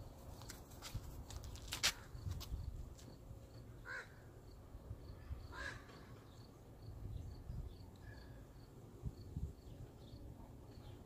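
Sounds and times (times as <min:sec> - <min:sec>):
cricket chirping: 0:01.9 - 0:11.0.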